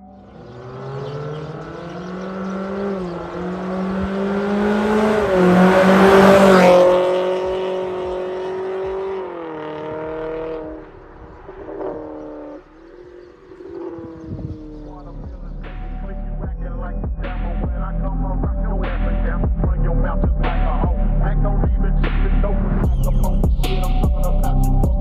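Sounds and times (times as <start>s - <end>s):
car exhaust drone accelerating: 0.0s - 25.0s.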